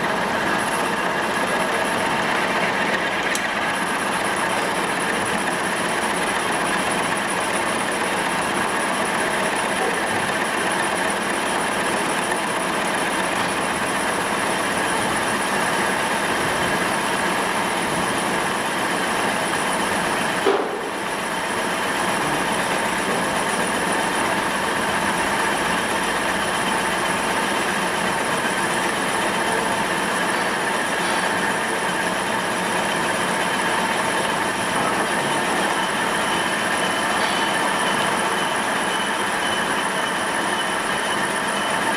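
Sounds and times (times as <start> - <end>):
boring machine whirring: 0.0 - 41.9.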